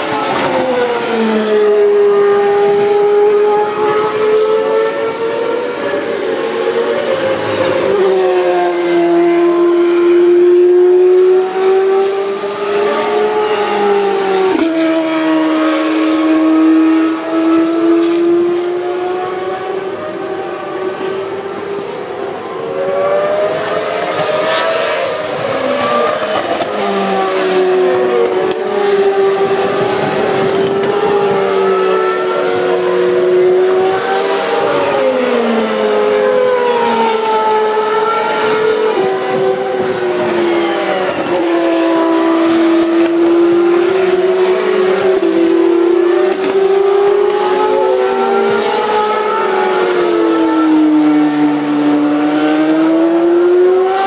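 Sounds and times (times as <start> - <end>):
race car engines at high revs: 0.0 - 54.0.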